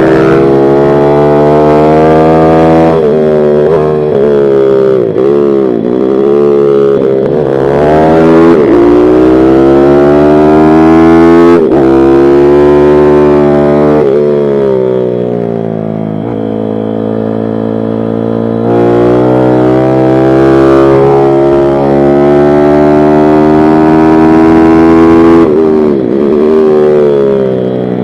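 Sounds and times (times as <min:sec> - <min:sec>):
motorbike engine revving: 0:00.0 - 0:28.0.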